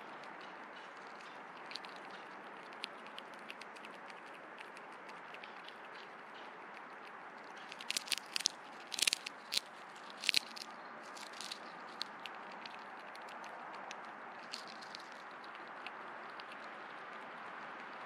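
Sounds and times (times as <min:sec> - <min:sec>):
seeds clicking and cracking: 0:00.8 - 0:06.2, 0:06.8 - 0:18.0.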